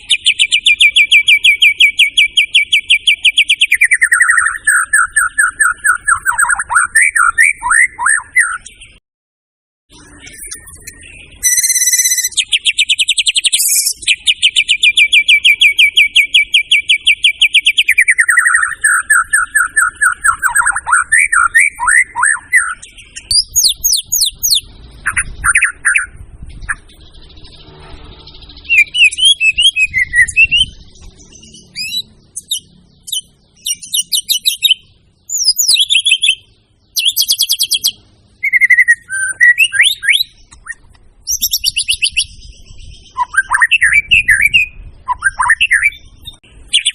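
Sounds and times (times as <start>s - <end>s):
songbird singing: 0.0s - 9.0s, 9.9s - 46.9s.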